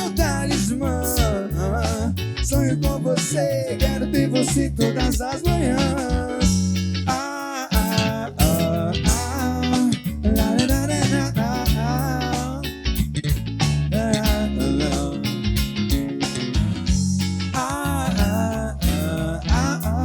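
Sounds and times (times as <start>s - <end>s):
person singing: 0.0s - 12.7s, 14.0s - 15.6s, 17.6s - 20.0s
bass guitar: 0.0s - 20.0s
guitar: 0.0s - 20.0s
steady beat: 0.0s - 20.0s.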